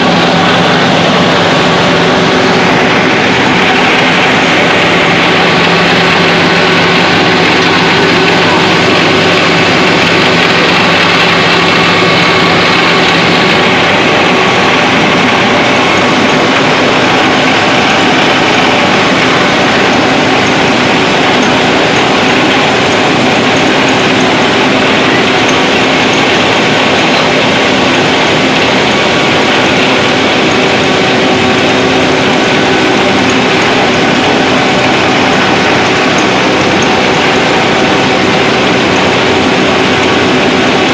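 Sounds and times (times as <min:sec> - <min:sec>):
milling machines droning: 0:00.0 - 0:40.9.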